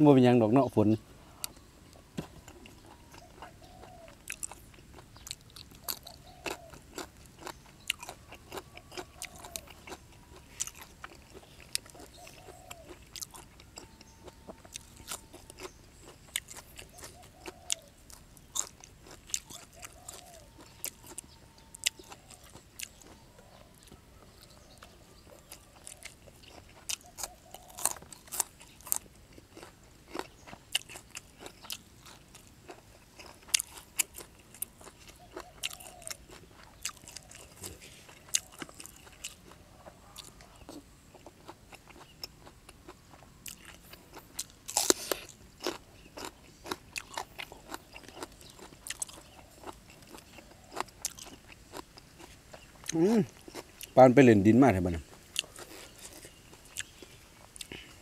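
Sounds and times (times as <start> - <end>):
close-up chewing and crunching: 0.6 - 58.0.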